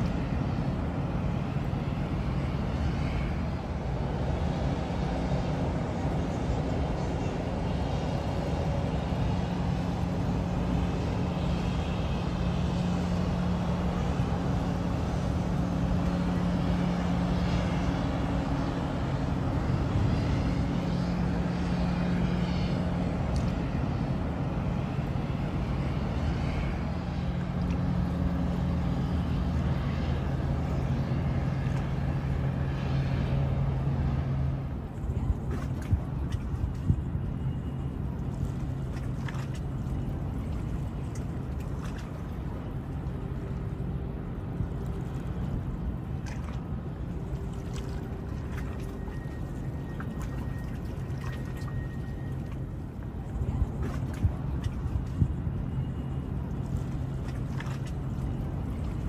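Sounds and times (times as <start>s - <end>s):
distant traffic-like noise: 0.0s - 59.0s
humming tones: 0.0s - 59.0s
low engine drone: 0.0s - 59.0s.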